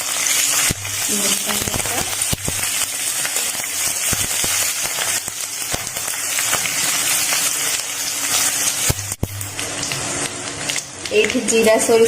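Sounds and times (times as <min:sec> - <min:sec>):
seeds sizzling in hot oil: 0:00.0 - 0:12.0.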